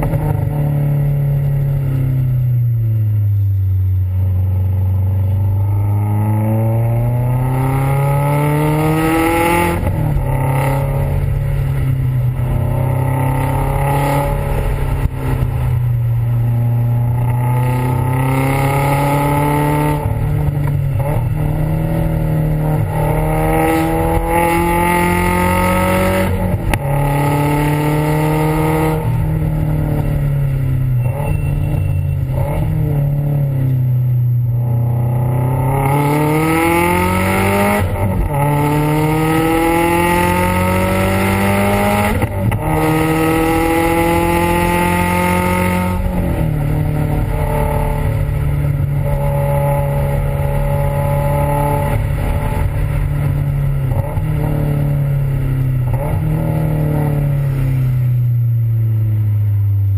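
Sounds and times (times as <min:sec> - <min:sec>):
car engine revving: 0:00.0 - 0:59.4.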